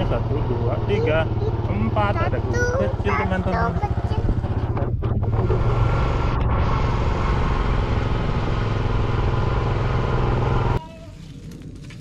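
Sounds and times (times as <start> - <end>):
motorbike engine: 0.0 - 10.8.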